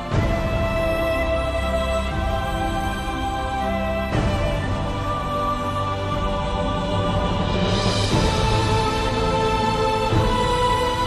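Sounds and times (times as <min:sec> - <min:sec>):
film music sustained chords: 0:00.0 - 0:11.0.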